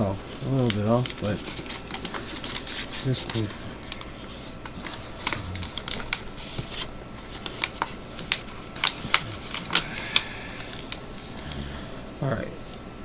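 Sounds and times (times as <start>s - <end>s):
paper crackling and rustling: 0.0s - 11.4s.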